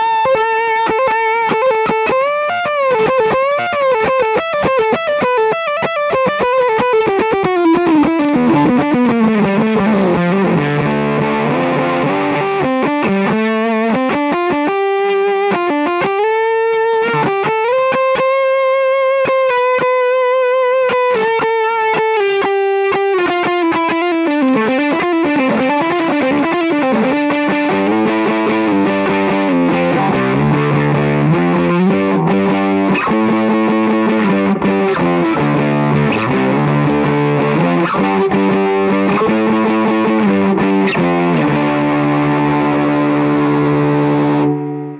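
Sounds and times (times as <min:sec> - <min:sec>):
fuzzed electric guitar note sliding: 0:00.0 - 0:44.9.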